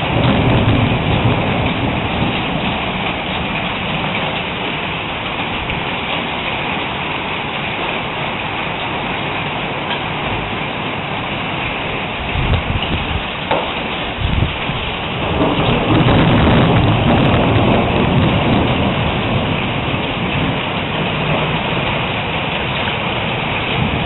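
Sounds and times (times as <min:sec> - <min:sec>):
hail striking the ground: 0:00.0 - 0:24.0.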